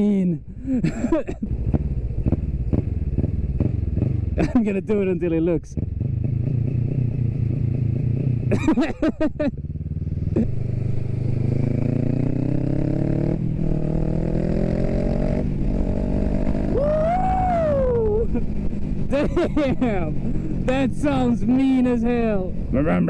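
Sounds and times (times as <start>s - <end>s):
motorcycle engine accelerating: 1.4s - 23.0s.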